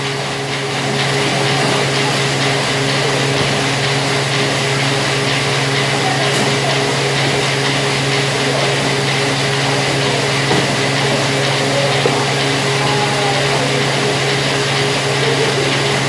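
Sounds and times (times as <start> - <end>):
factory machinery humming and whining: 0.0 - 16.0.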